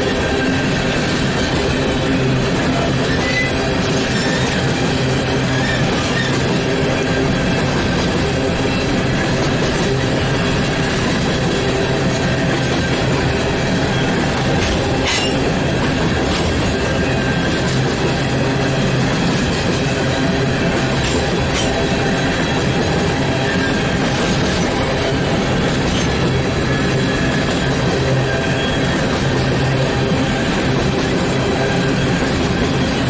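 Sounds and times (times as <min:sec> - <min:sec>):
high-pitched wheel squeal: 0:00.0 - 0:16.1, 0:16.7 - 0:33.0
train wheels rumbling on rails: 0:00.0 - 0:33.0.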